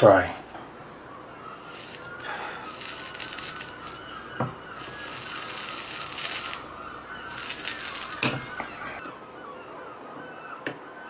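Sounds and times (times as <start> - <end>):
flux crackling and hissing: 0.0 - 9.0.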